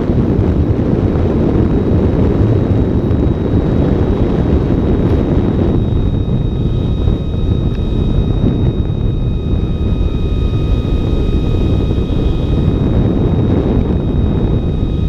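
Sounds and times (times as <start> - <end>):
faint high motor whine: 0.0 - 15.0
wind buffeting microphone: 0.0 - 15.0.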